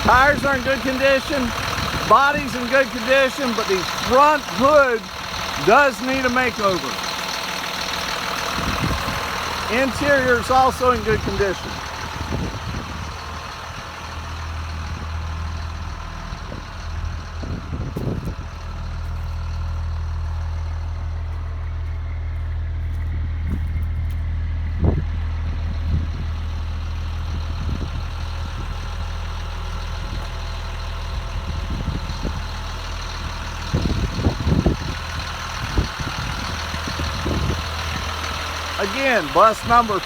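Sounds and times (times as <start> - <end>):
bus diesel engine idling: 0.0 - 40.0.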